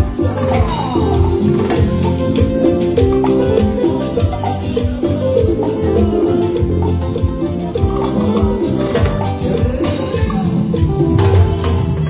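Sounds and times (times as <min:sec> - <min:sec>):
drums and bass dance beat: 0:00.0 - 0:12.0
guitar and keyboard lines: 0:00.0 - 0:12.0.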